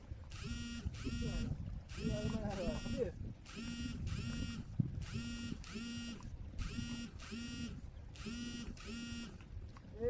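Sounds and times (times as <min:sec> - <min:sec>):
buzzy electronic beeps: 0:00.3 - 0:09.4.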